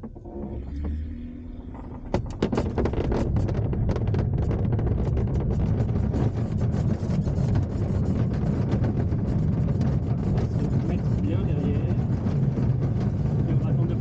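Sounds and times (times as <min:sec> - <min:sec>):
glider cockpit rumble: 0:00.0 - 0:14.0
knocks and rattles: 0:00.0 - 0:14.0.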